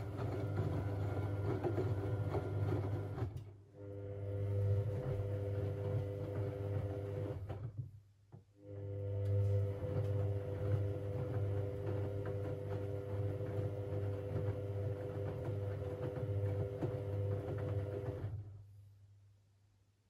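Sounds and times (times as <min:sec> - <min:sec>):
washing machine motor hum: 0:00.0 - 0:07.8, 0:08.6 - 0:18.6.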